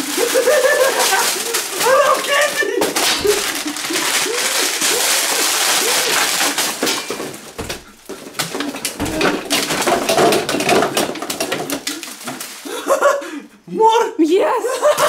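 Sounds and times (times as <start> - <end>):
packages knocking in plastic compartment: 0.0 - 12.7
plastic bag crinkling: 0.0 - 13.2.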